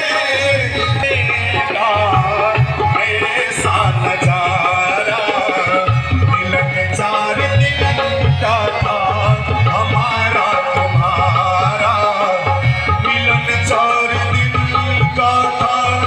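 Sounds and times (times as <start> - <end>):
ornamented sung melody: 0.0 - 16.0
tabla steady beat: 0.0 - 16.0.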